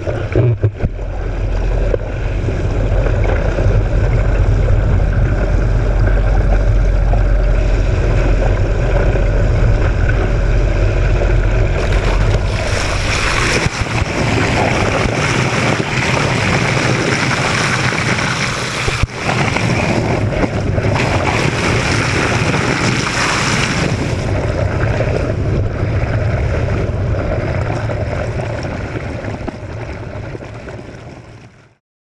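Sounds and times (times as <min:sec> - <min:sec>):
water rushing and churning: 0:00.0 - 0:31.8.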